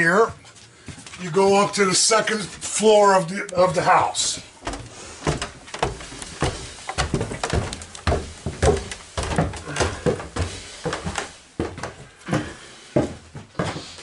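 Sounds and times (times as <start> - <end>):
footsteps on stairs: 0.0 - 14.0.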